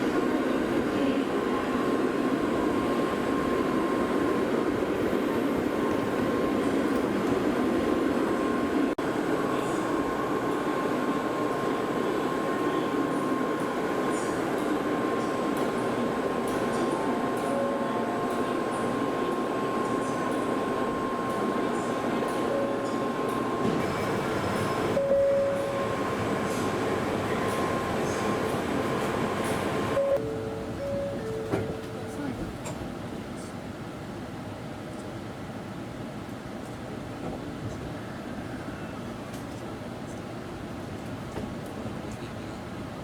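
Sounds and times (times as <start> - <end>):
train rail and running noise: 0.0 - 43.0.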